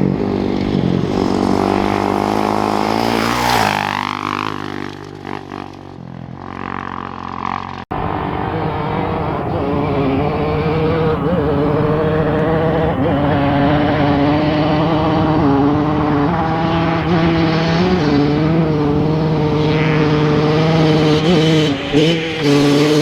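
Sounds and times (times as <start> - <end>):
racing motorcycle engine running: 0.0 - 23.0.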